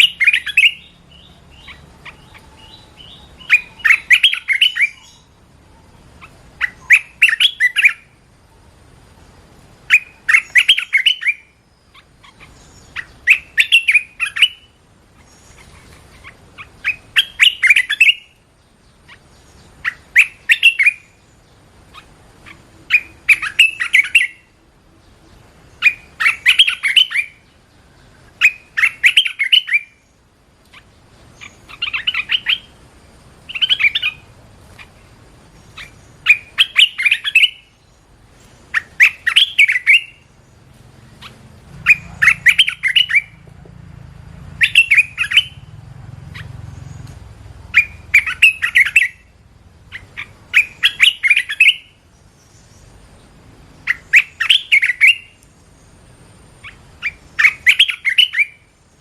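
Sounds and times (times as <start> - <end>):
bird singing warbling phrases: 0.0 - 43.5, 44.5 - 59.0.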